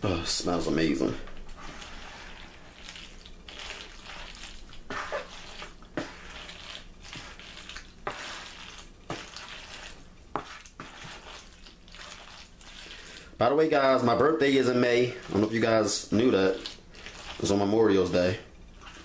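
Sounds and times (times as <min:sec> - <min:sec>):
spoon stirring wet salad: 0:01.3 - 0:13.3, 0:14.5 - 0:19.0.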